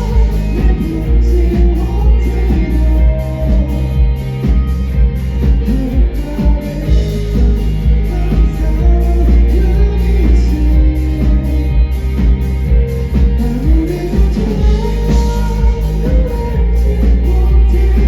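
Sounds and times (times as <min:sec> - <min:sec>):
person singing: 0:00.0 - 0:12.4, 0:13.0 - 0:18.0
bass and electric guitar: 0:00.0 - 0:18.0
drums keeping a steady beat: 0:00.0 - 0:18.0.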